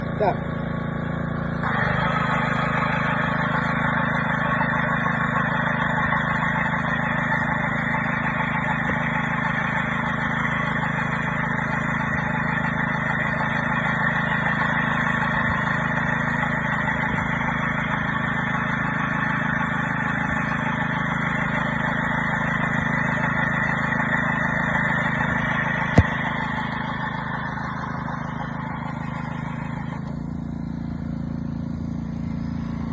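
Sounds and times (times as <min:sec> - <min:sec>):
engine hum: 0:00.0 - 0:32.9.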